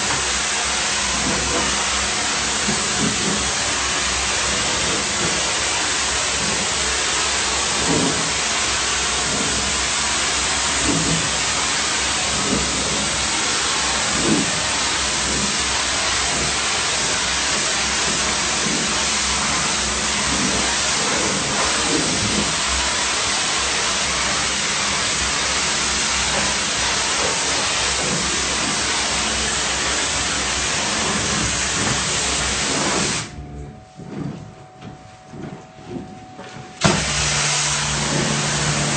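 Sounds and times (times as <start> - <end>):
steam lance hissing: 0.0 - 33.4, 36.8 - 38.9.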